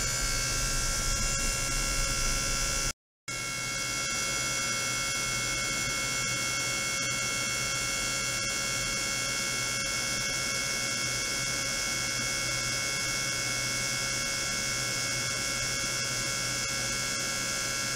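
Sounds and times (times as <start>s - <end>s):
electrical hum and high whine: 0.0s - 17.9s.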